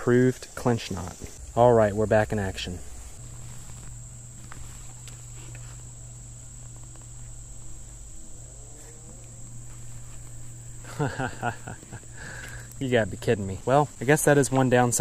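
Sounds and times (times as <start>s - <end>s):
insects trilling: 0.0s - 15.0s
low steady rumble: 1.2s - 15.0s.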